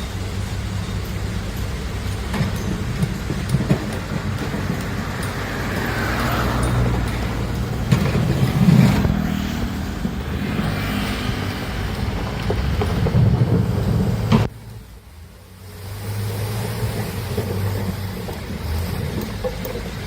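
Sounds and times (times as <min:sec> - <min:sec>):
heavy machinery engine drone: 0:00.0 - 0:20.0.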